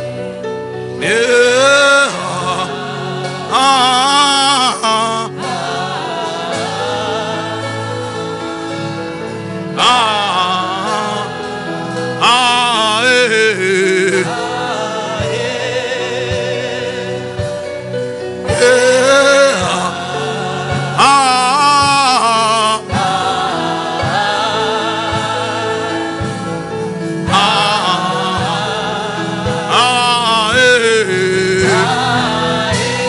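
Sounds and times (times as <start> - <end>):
slow worship music: 0.0 - 33.0
person singing with vibrato: 0.9 - 33.0.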